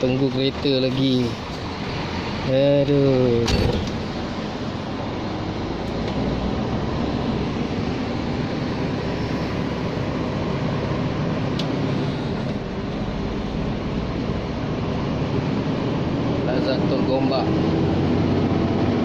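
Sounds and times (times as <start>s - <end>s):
diesel engine running: 0.0s - 19.0s
road noise: 0.0s - 19.0s.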